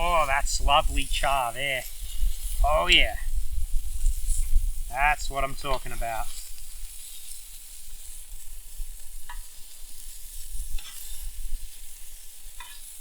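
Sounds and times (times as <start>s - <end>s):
wind rumbling on microphone: 0.0s - 12.4s
meat sizzling in fat: 0.0s - 13.0s.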